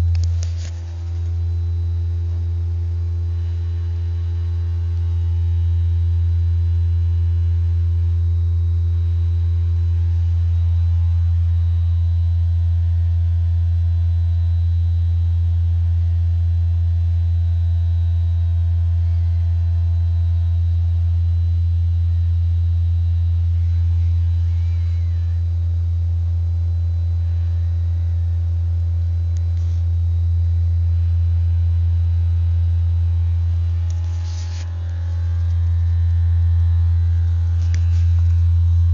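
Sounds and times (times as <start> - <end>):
low vibrating hum: 0.0 - 38.9.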